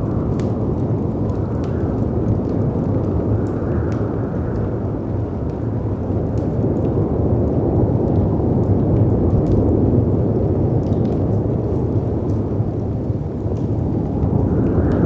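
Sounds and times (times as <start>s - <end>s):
wind roaring: 0.0s - 15.0s
wood fire crackling: 0.0s - 15.0s.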